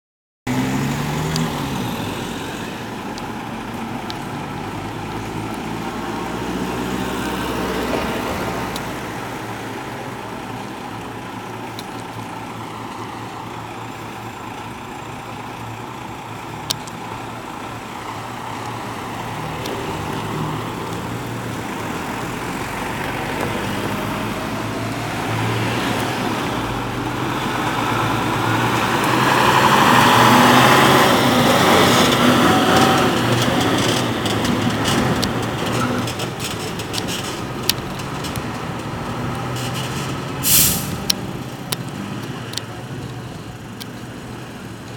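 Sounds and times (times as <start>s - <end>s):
diesel engine pulling away: 0.5s - 44.9s
road traffic noise: 0.5s - 44.9s.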